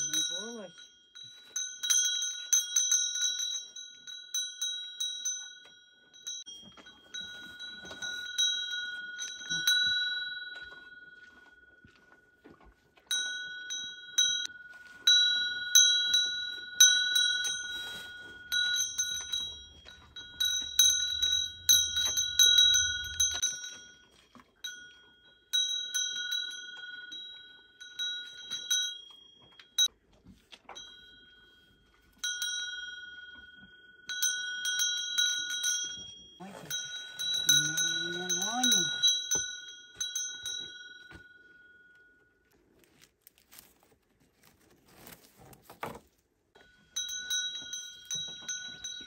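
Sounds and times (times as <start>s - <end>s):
cow bell clanking: 0.0s - 42.8s, 46.5s - 49.0s.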